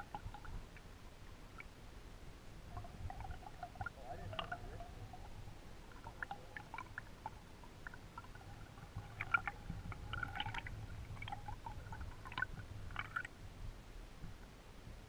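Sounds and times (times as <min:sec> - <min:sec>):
faint clicks and ticks: 0:00.0 - 0:01.8, 0:02.6 - 0:13.4
underwater stream rumble: 0:00.0 - 0:15.0.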